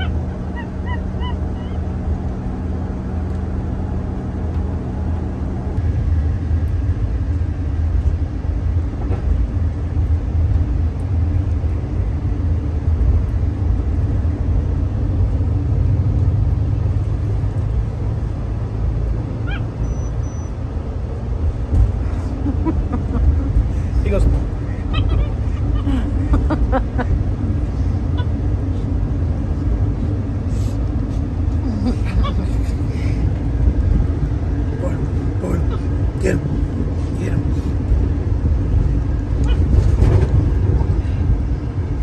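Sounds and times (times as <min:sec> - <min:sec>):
car cabin road and engine rumble: 0:00.0 - 0:42.0.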